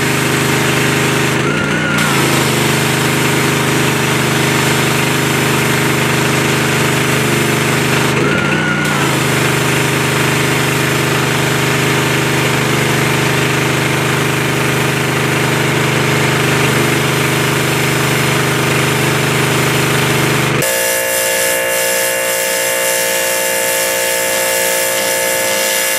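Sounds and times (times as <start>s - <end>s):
pressure washer engine running: 0.0s - 25.9s
water jet hissing on concrete: 0.0s - 25.9s.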